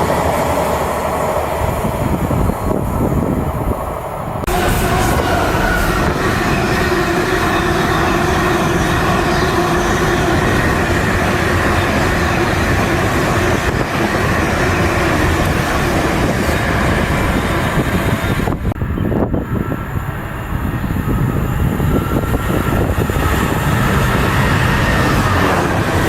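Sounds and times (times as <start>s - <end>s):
train passing close: 0.0s - 26.0s.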